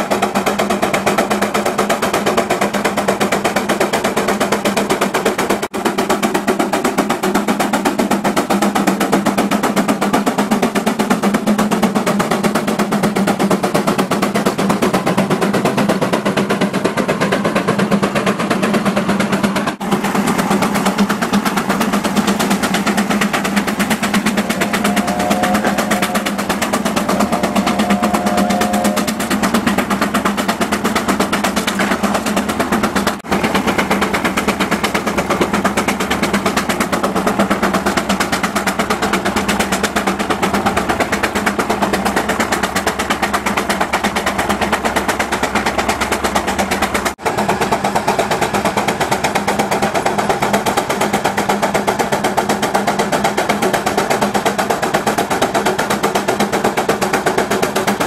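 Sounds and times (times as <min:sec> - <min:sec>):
tractor engine popping exhaust: 0:00.0 - 0:58.0.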